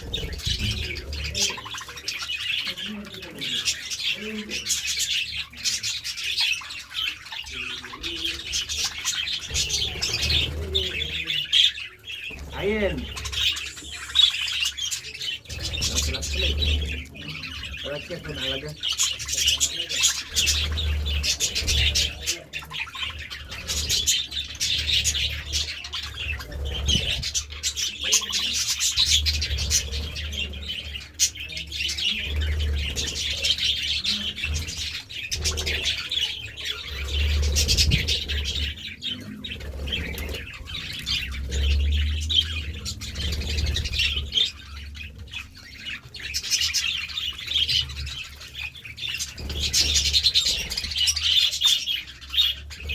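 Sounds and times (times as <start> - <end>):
budgerigars chirping and chattering: 0.0 - 52.9.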